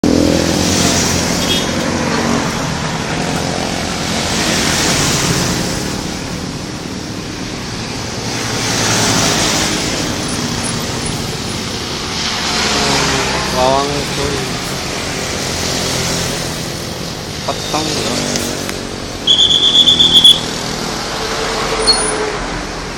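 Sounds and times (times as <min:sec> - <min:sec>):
vehicles passing: 0:00.0 - 0:22.9.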